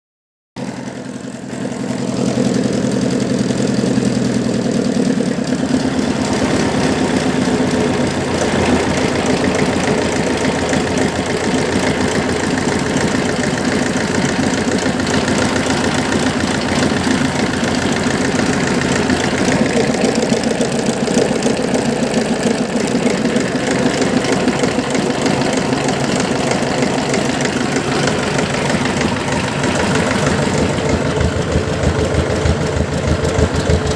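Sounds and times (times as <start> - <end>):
diesel engine running: 0.6 - 33.9.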